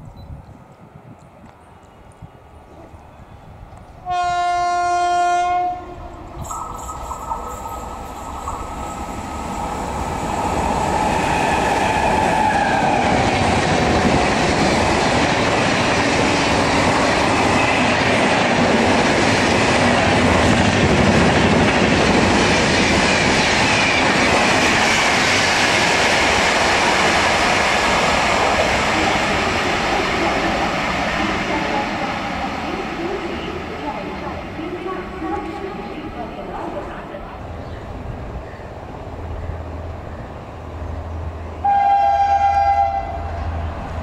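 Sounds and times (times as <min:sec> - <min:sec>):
train passing at speed: 0:00.4 - 0:44.0.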